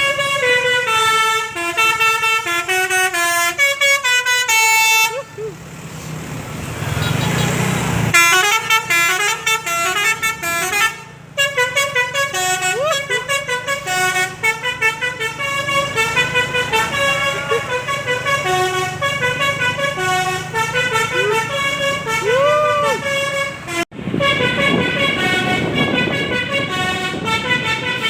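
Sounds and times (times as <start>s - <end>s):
bus horn tooting melody: 0.0s - 5.4s, 8.1s - 28.0s.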